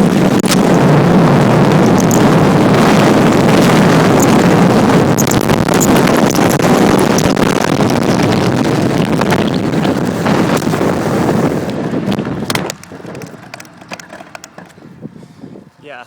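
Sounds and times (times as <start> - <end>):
bicycle tyre and road noise: 0.0 - 16.0
wind rush over microphone: 0.0 - 16.0.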